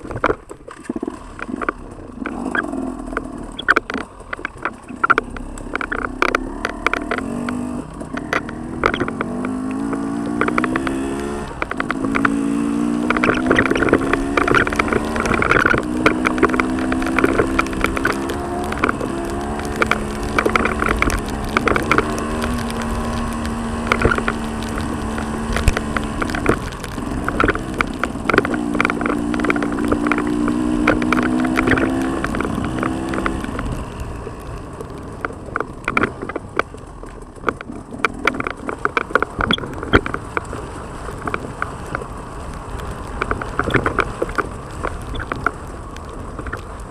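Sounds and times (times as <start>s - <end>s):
sharp knocks and clicks: 0.0s - 46.8s
motorcycle engine revving: 0.0s - 46.9s.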